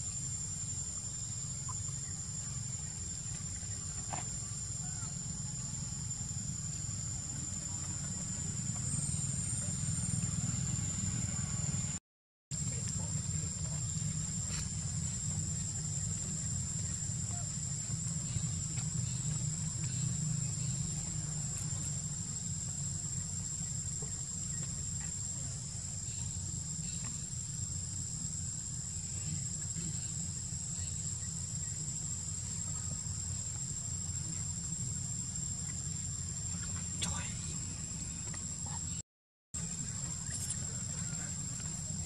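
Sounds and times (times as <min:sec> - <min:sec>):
high-pitched insect chorus: 0:00.0 - 0:12.0, 0:12.6 - 0:39.0, 0:39.6 - 0:42.0.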